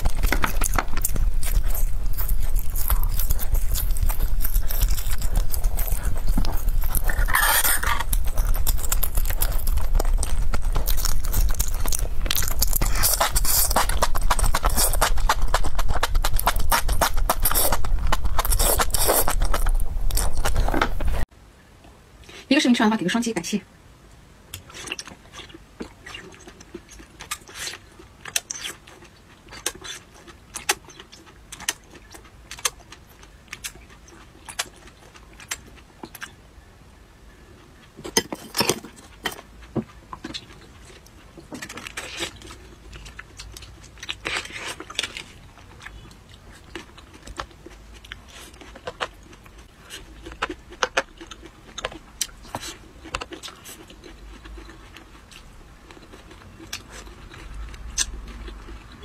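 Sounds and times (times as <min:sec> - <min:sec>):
crunchy chewing: 0:00.0 - 0:21.3, 0:24.6 - 0:36.4, 0:37.6 - 0:59.0.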